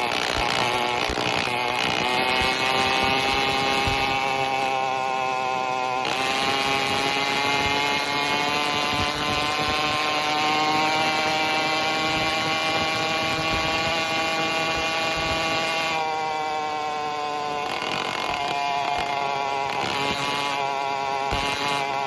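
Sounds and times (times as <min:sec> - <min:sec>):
two-stroke engine running: 0:00.0 - 0:22.0.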